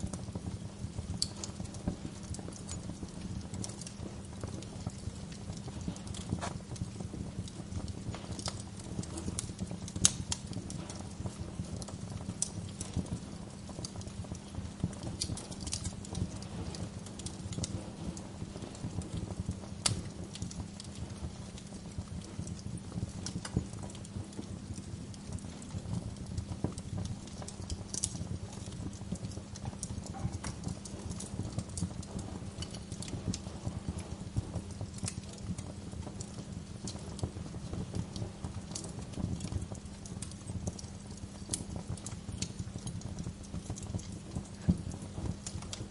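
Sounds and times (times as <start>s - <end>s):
sharp fire pops: 0.0s - 45.9s
wood fire crackling: 0.0s - 45.9s.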